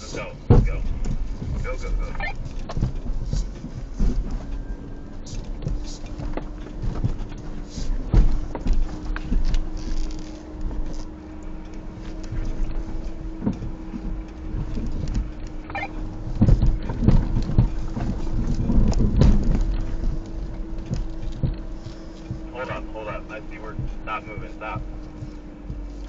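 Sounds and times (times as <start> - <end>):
off-road vehicle engine running: 0.0 - 26.0
suspension knocks and clunks: 0.0 - 26.0.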